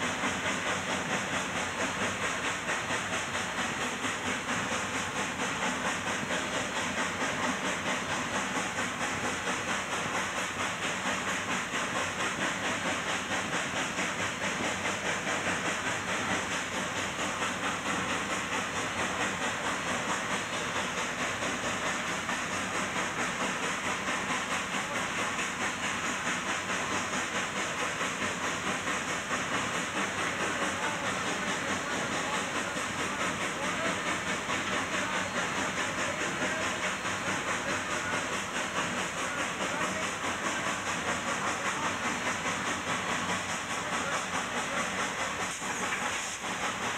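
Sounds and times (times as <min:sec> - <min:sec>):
locomotive exhaust beats: 0:00.0 - 0:46.9
steam hissing: 0:00.0 - 0:46.9.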